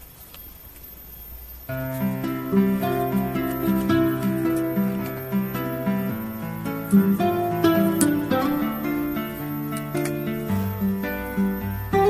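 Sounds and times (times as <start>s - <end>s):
instrumental background music: 1.7s - 12.0s.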